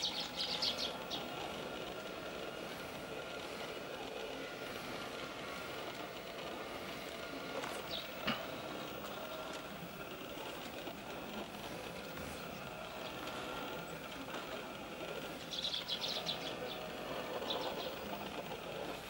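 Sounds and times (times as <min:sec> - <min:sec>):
small birds chirping: 0:00.0 - 0:19.0
steady background hum: 0:00.0 - 0:19.0.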